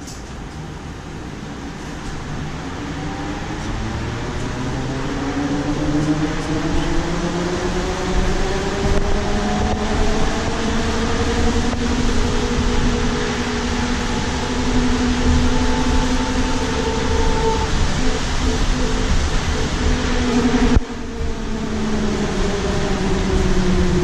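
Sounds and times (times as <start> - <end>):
low road rumble: 0.0 - 24.0
electric motor whine: 2.8 - 24.0.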